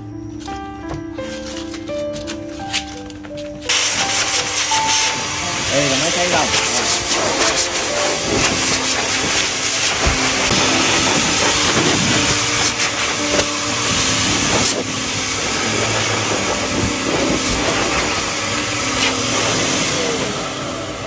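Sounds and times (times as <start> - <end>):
blow dryer rush of air: 3.7 - 21.0
dryer motor humming: 3.7 - 21.0.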